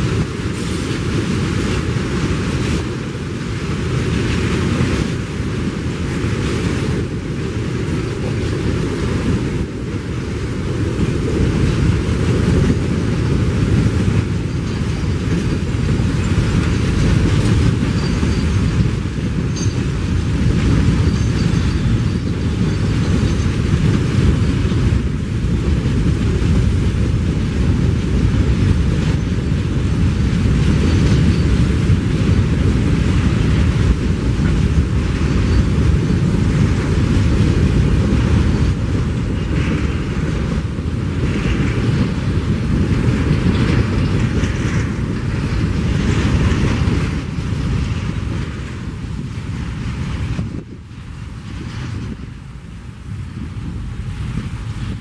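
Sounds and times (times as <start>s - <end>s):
freight wagon wheels rumbling: 0.0s - 55.0s.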